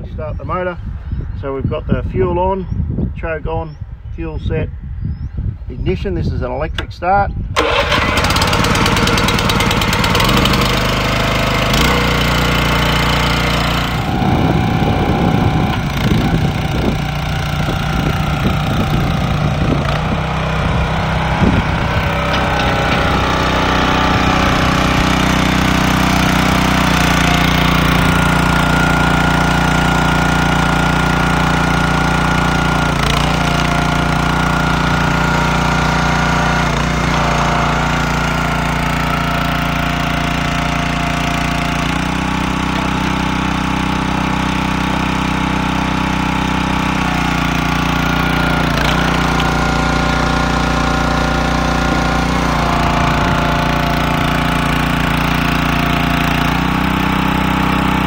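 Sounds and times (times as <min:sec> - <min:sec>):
small petrol engine running: 0:07.6 - 0:58.0.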